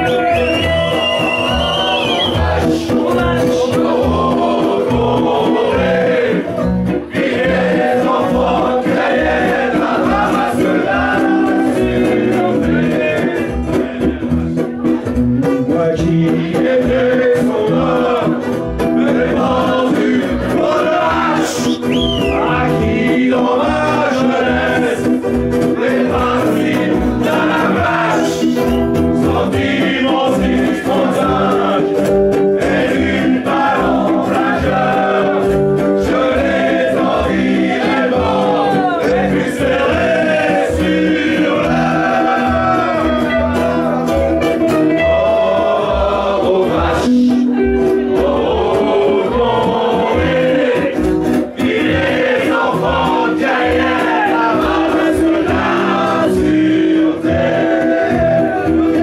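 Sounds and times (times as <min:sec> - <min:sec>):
strummed guitars: 0:00.0 - 0:59.0
men singing in group chorus: 0:00.1 - 0:14.6, 0:15.5 - 0:44.2, 0:44.8 - 0:59.0.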